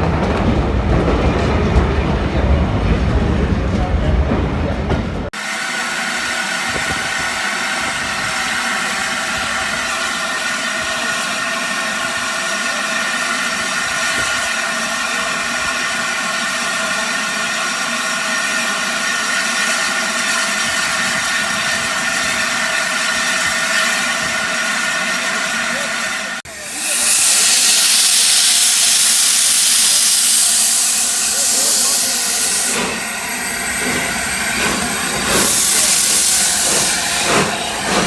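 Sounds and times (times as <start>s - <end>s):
steam hissing: 5.4s - 38.0s.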